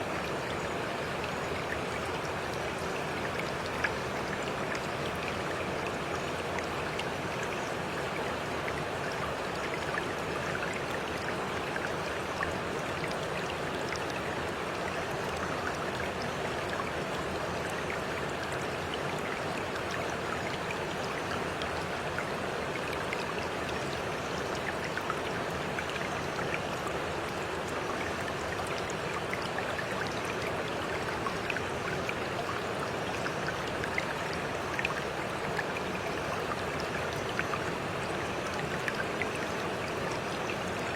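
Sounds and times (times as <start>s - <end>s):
faint drip-like ticks: 0.0s - 40.9s
stream water flowing: 0.0s - 40.9s.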